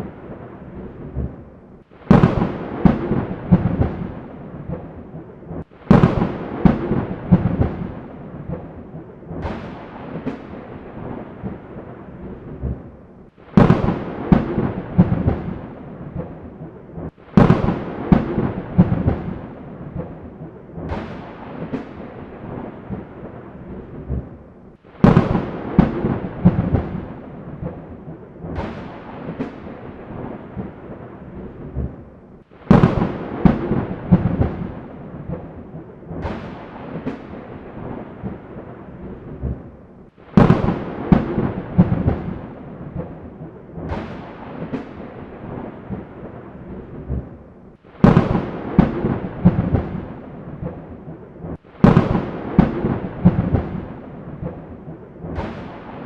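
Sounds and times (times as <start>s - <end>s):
thunderclaps cracking and rumbling: 0.0s - 56.0s.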